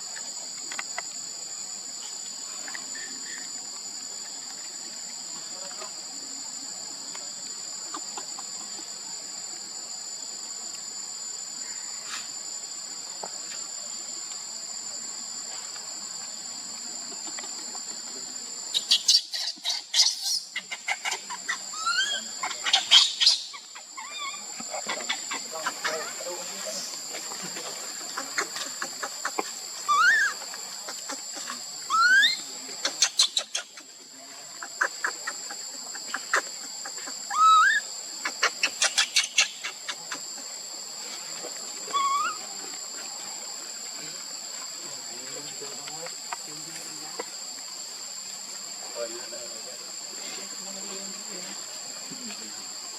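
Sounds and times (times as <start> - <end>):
crickets droning: 0.0 - 52.9.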